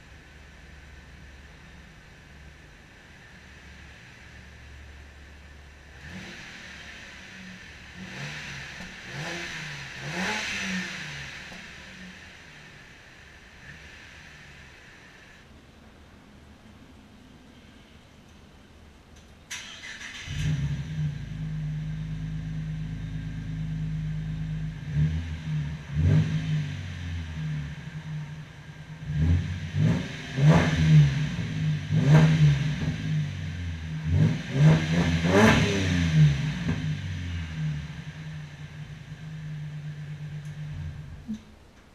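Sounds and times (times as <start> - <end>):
unmuffled car engine revving: 0.0 - 15.4, 19.6 - 41.9.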